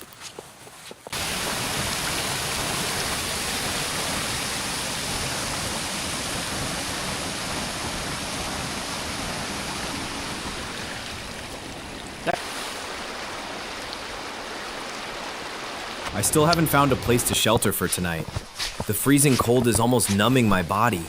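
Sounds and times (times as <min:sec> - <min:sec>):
strong wind blowing: 0:01.2 - 0:20.1.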